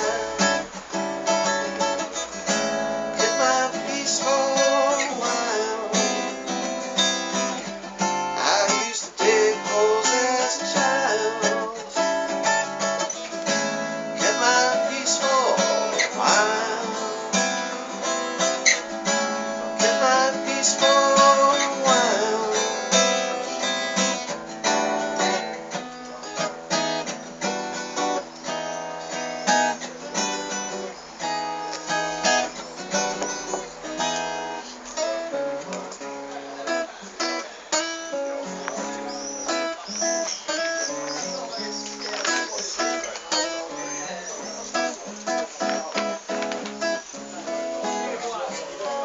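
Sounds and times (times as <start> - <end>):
solo acoustic guitar: 0.0 - 49.0.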